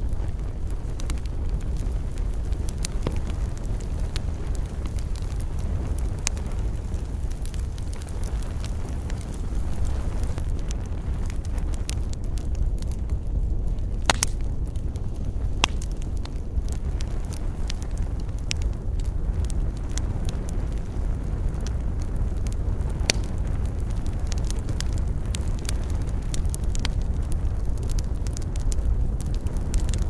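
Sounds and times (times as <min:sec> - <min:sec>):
campfire crackling and popping: 0:00.0 - 0:30.0
steady low rumble: 0:00.0 - 0:30.0.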